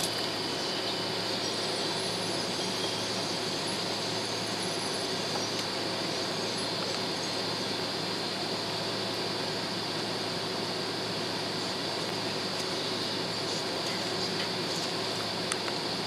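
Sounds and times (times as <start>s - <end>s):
jet engines and rolling rumble: 0.0s - 16.0s.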